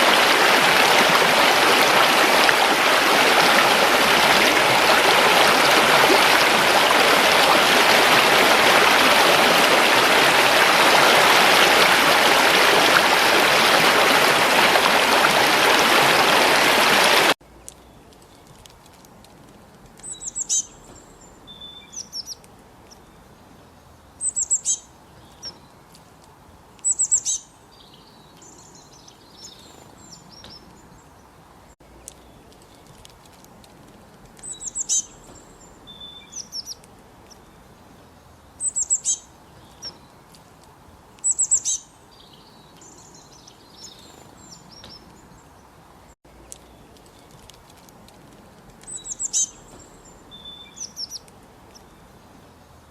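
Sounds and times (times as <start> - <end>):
flowing creek: 0.0 - 52.9
songbird chirping: 0.0 - 52.9.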